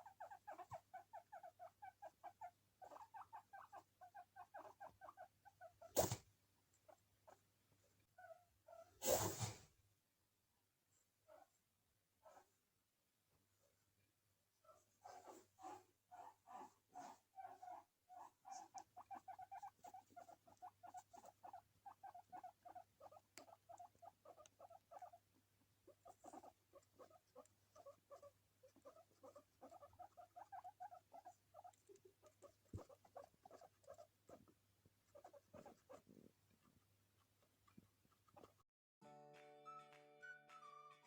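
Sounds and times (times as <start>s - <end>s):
guinea pig soft pulses: 0.0s - 9.8s, 10.9s - 12.6s, 13.6s - 38.6s.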